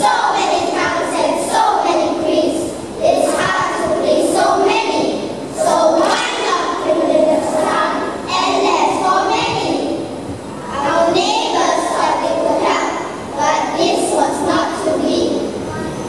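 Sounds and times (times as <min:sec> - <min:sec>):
children speaking in unison: 0:00.0 - 0:16.0.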